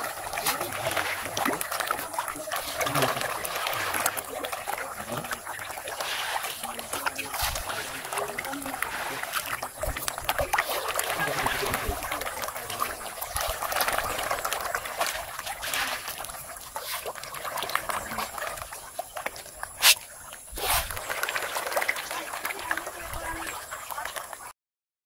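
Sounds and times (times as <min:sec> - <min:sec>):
fish splashing at water surface: 0:00.0 - 0:24.5.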